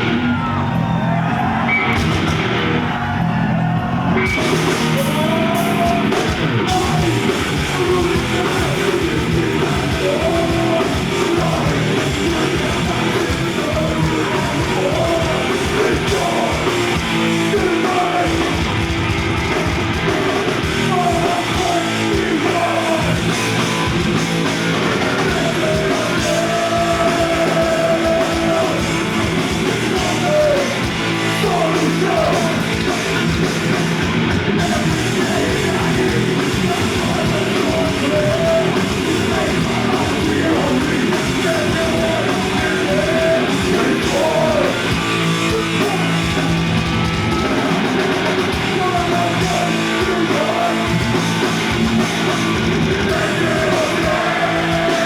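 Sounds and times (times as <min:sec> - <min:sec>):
heavy metal band playing live: 0:00.0 - 0:55.0
vocals: 0:00.0 - 0:55.0.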